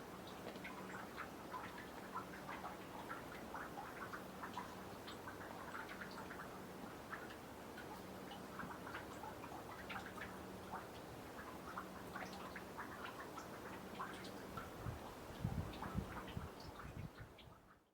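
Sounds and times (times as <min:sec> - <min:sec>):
meltwater dripping into pond: 0:00.0 - 0:17.9.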